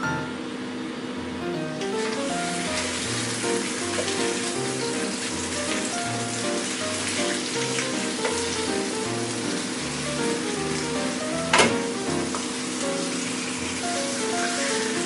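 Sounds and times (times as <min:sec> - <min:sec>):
background music: 0:00.0 - 0:00.4, 0:01.2 - 0:13.2
pork chops sizzling in a frying pan: 0:02.0 - 0:15.0.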